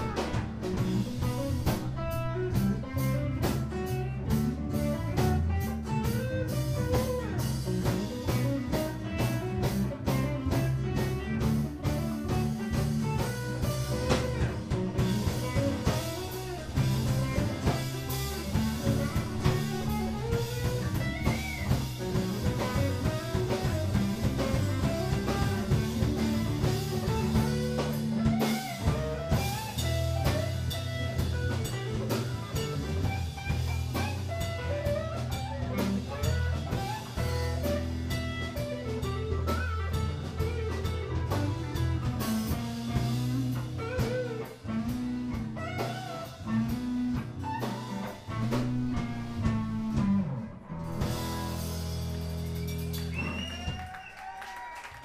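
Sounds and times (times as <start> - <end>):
electric bass: 0.0 - 54.0
drum kit steady beat: 0.0 - 54.7
electric and acoustic guitars: 0.0 - 54.8.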